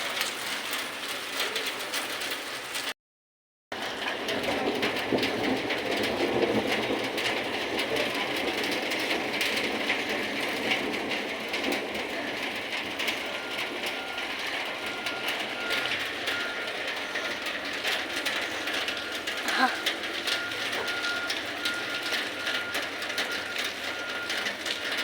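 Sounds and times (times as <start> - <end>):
heavy rain pouring: 0.0 - 2.9, 3.8 - 25.0.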